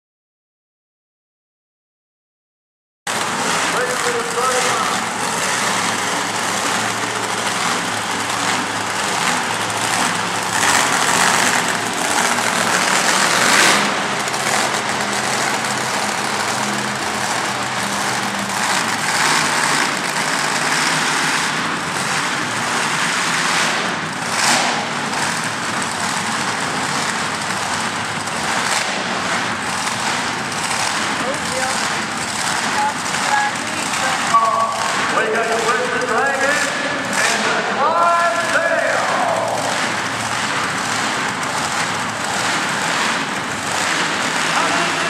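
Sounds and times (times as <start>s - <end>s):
monster truck engines running: 3.1s - 45.0s.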